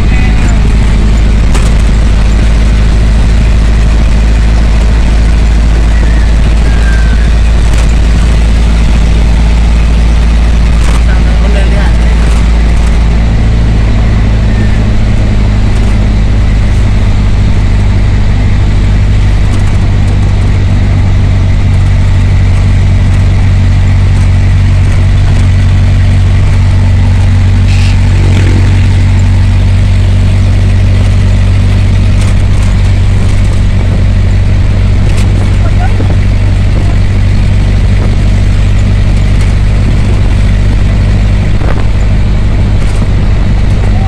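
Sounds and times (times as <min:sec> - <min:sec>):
vehicle engine drone from inside: 0:00.0 - 0:44.0.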